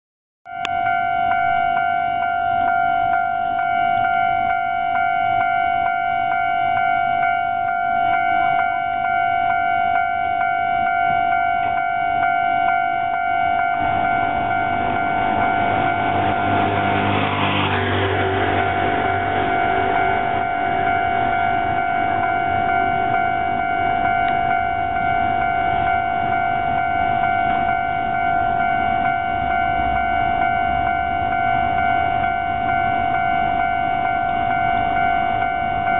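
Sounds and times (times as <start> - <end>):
level crossing warning bell: 0.5 - 35.9
train rumbling: 0.7 - 35.9.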